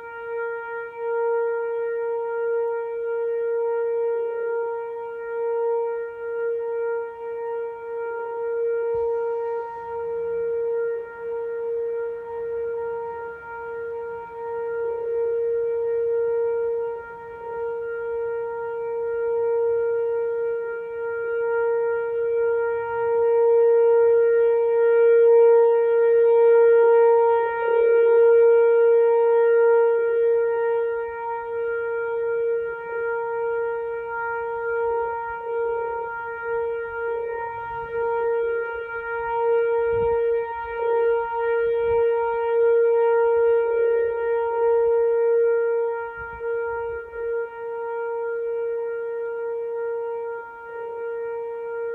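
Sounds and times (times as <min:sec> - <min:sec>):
warning siren steady tone: 0:00.0 - 0:51.9.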